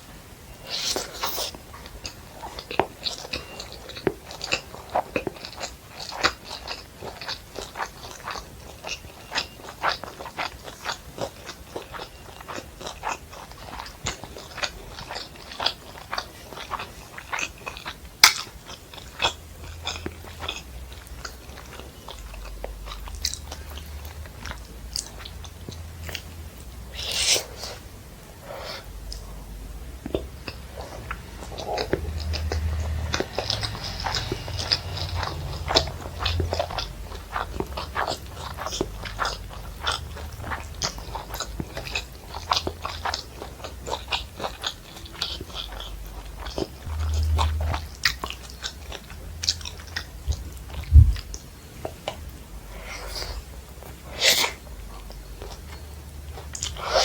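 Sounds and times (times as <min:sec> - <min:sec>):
chewing with wet mouth clicks: 0:00.6 - 0:27.8, 0:28.6 - 0:29.4, 0:30.0 - 0:57.0.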